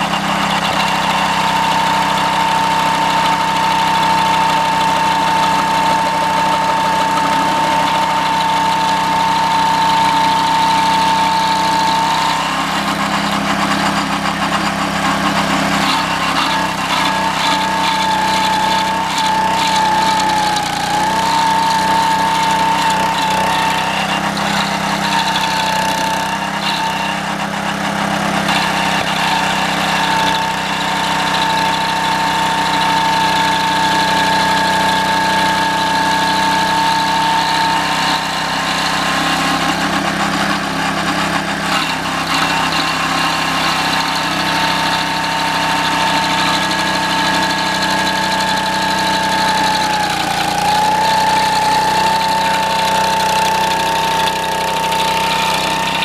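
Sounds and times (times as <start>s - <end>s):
stump grinder engine running: 0.0s - 56.0s.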